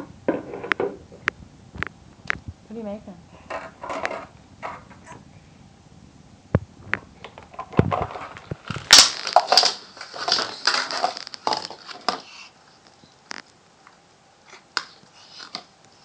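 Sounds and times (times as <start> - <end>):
close crackly noise: 0.0 - 5.4, 6.5 - 16.0.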